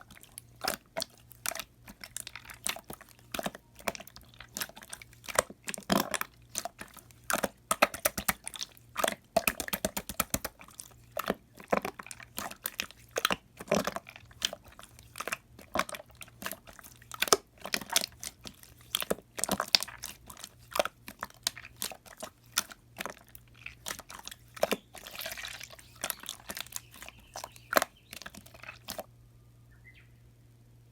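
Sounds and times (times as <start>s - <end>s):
slime squished by hand: 0.0s - 29.1s.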